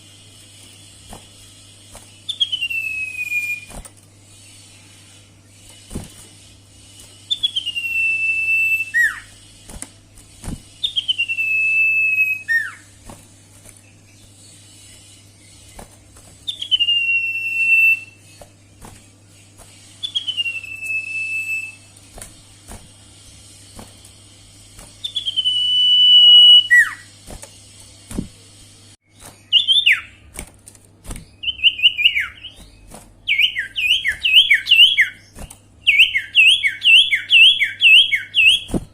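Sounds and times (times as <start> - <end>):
steady low hum: 0.0 - 38.9
bird song whistled notes: 0.1 - 9.4, 10.4 - 13.0, 13.6 - 21.9, 24.8 - 27.1, 29.1 - 30.3, 31.2 - 38.8.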